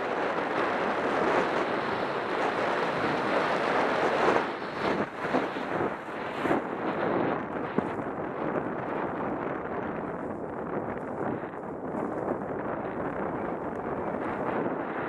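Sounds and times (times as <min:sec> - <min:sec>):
skis sliding over snow: 0:00.0 - 0:15.0
wind on microphone: 0:00.0 - 0:15.0.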